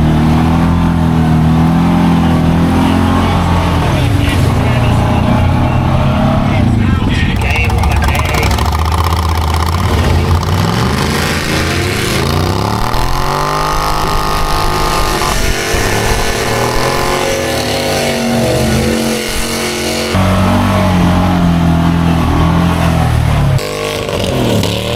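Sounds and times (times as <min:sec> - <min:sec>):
off-road vehicle engine revving: 0:00.0 - 0:24.9.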